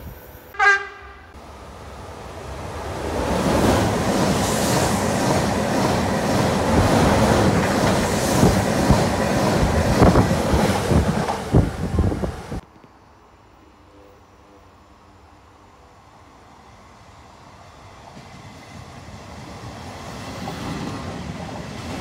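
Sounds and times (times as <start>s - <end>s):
train rushing past: 0.1s - 12.6s, 15.6s - 22.0s.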